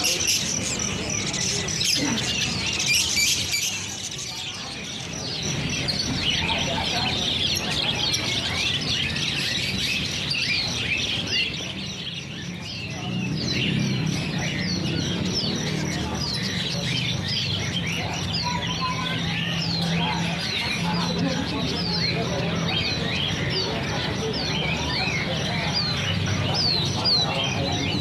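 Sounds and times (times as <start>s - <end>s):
caged birds chirping: 0.0s - 28.0s.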